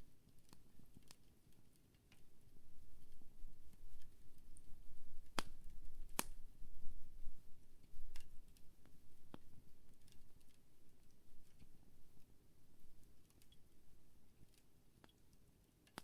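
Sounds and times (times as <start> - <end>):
campfire crackling: 0.3 - 16.0.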